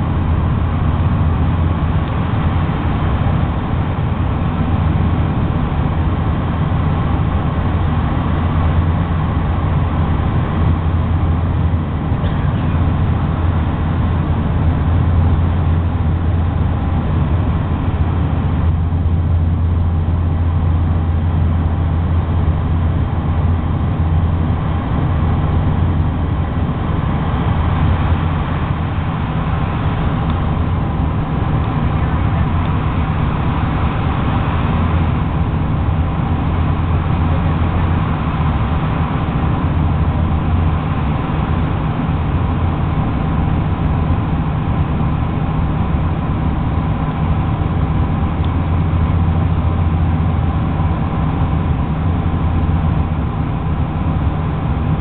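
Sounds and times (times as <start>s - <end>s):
rushing airflow: 0.0s - 55.0s
turboprop engines droning: 0.0s - 55.0s.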